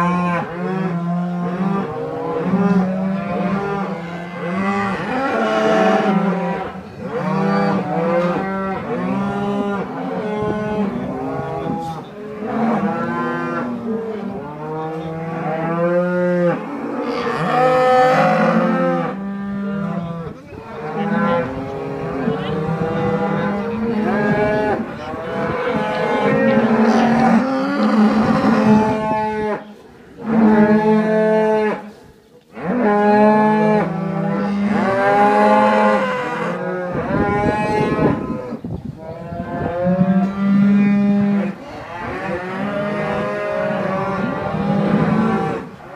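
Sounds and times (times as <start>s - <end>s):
cattle mooing: 0.0s - 29.6s, 32.6s - 45.9s.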